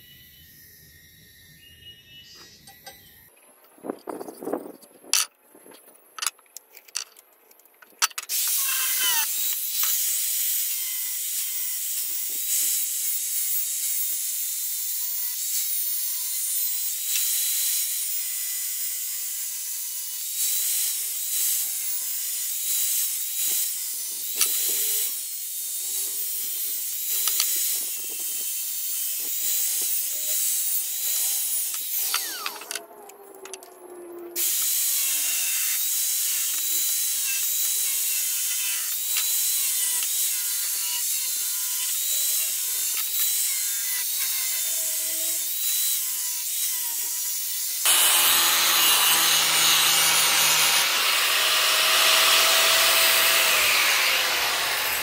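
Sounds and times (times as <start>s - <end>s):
power tool grinding steel: 0.0s - 3.3s, 8.1s - 55.0s.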